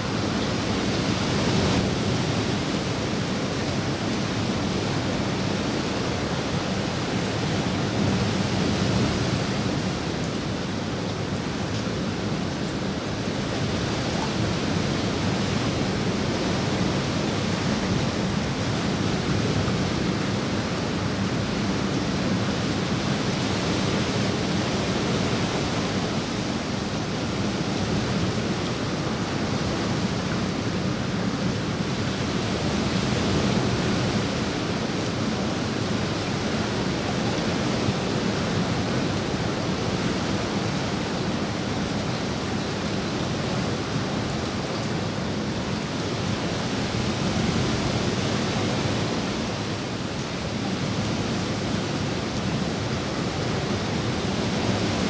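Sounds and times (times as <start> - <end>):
rain falling on pool water: 0.0 - 55.0.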